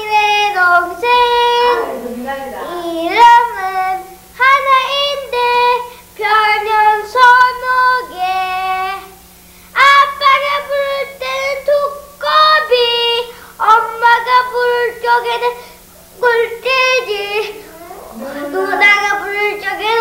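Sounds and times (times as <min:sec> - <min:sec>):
child singing: 0:00.0 - 0:09.2, 0:09.8 - 0:20.0
faint steady hum: 0:00.0 - 0:20.0.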